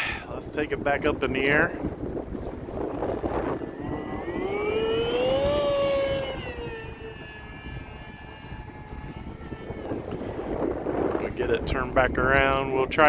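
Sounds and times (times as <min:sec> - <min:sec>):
wind rumbling on microphone: 0:00.0 - 0:13.0
electric motor and propeller whining: 0:01.2 - 0:13.0.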